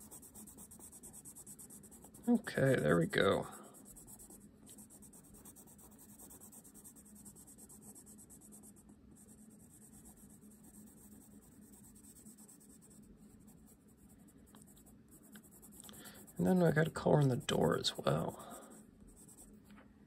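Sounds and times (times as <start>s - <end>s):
pencil scratching on paper: 0.0s - 19.6s.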